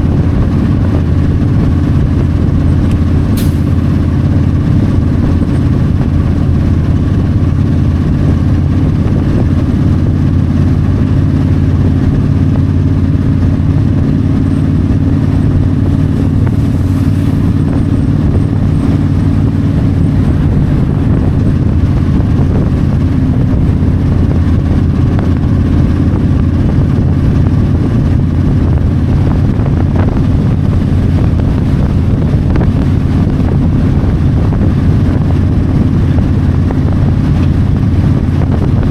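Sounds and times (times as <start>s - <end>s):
motorcycle engine cruising: 0.0s - 38.9s
wind rushing past microphone: 0.0s - 38.9s.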